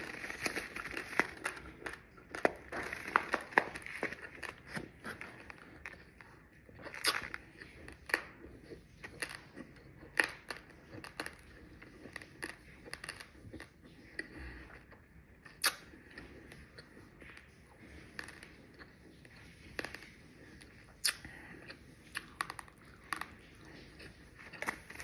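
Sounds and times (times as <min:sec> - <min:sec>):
chewing crunchy rice grains: 0:00.0 - 0:25.0.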